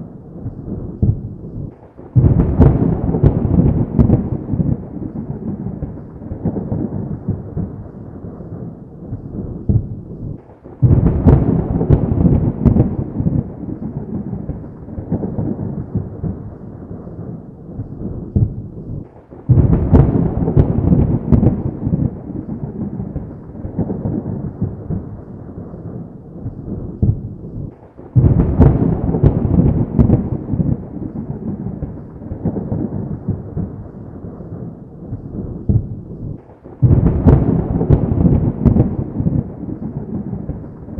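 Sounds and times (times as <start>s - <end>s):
thunder claps rumbling: 0.0s - 40.9s.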